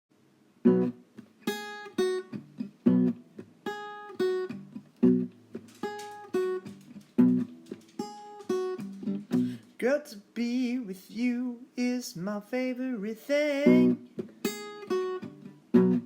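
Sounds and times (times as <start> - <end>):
acoustic guitar strumming chords: 0.6 - 16.0.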